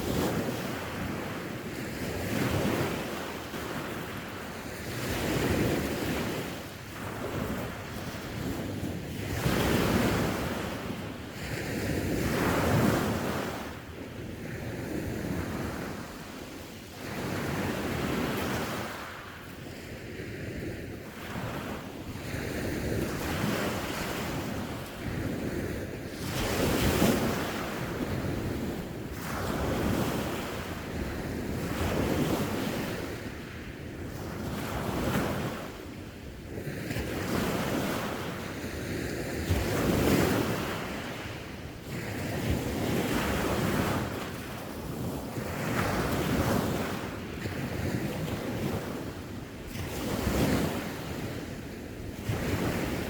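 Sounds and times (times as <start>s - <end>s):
sea waves breaking on shore: 0.0s - 53.0s
wind buffeting microphone: 0.0s - 53.0s.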